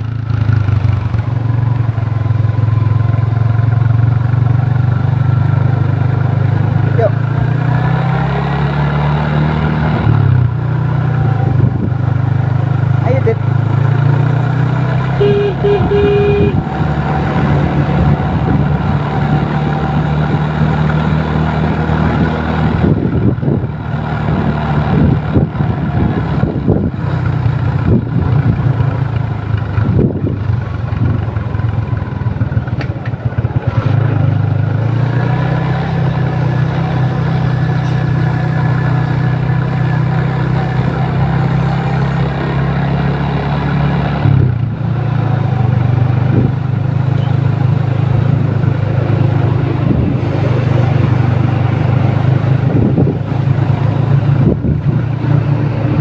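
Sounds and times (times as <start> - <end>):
motor vehicle engine running: 0.0 - 56.0
traffic noise: 0.0 - 56.0.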